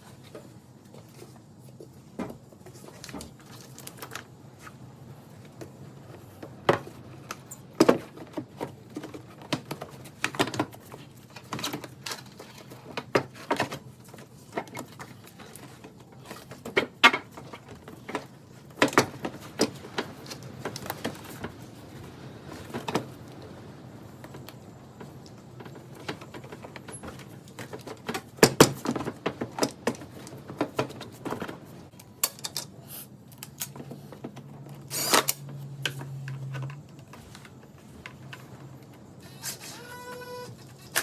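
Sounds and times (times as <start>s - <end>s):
hand tools clinking and knocking: 5.4s - 41.0s.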